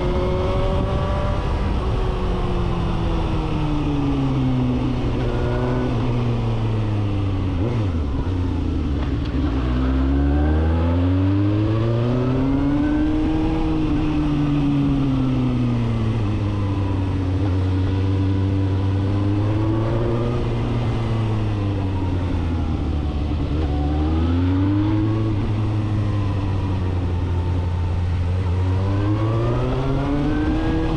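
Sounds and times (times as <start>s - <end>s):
motorcycle engine revving: 0.0s - 3.0s, 3.8s - 30.9s.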